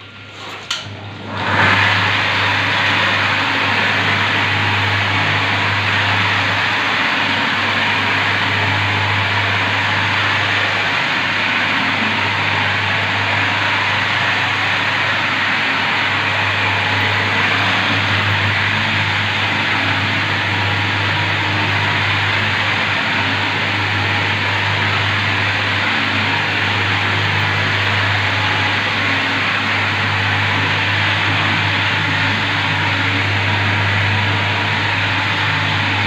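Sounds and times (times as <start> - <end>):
polishing machine motor hum: 0.3 - 36.0.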